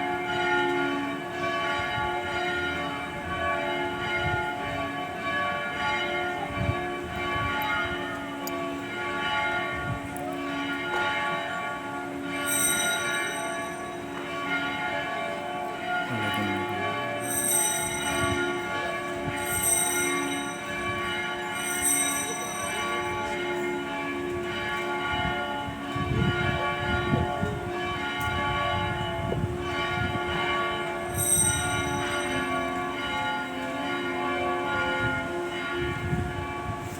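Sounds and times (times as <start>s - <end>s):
church bells ringing: 0.0s - 36.9s.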